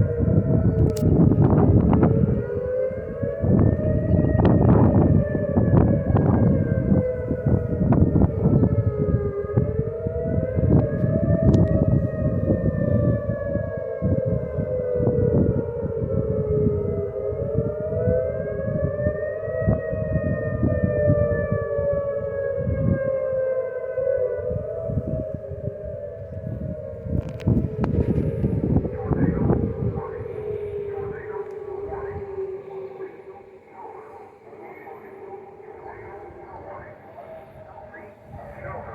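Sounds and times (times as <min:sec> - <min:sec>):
warning siren wailing: 0:00.0 - 0:38.9
wind rumbling on microphone: 0:00.0 - 0:38.9.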